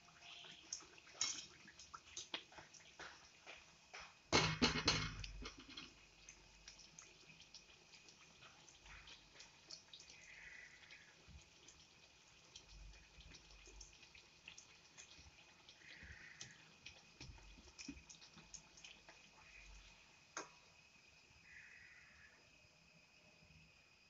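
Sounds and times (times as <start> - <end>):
hot oil crackling and popping: 0.0 - 21.6.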